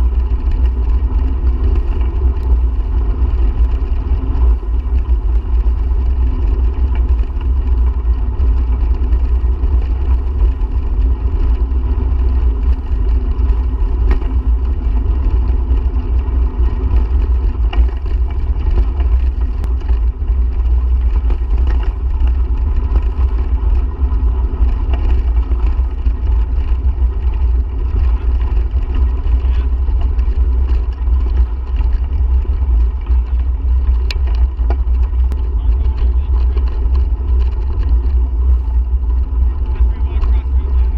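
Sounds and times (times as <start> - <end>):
tyres rushing on trail: 0.0 - 40.9
wind buffeting microphone: 0.0 - 40.9.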